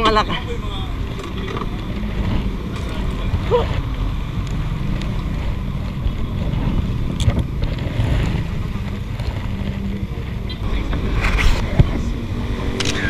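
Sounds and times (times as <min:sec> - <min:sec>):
scooter engine idling: 0:00.0 - 0:13.0
wind on microphone: 0:00.0 - 0:13.0.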